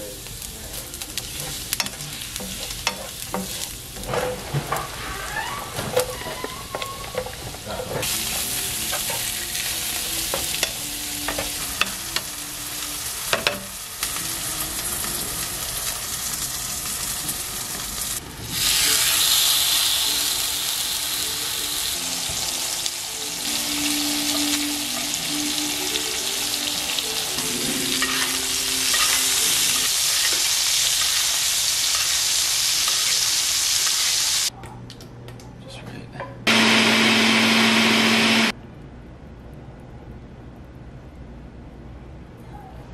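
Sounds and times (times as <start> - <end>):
mushrooms sizzling in a pan: 0.0 - 34.5, 36.5 - 38.5
steak sizzling in a skillet: 0.0 - 34.5.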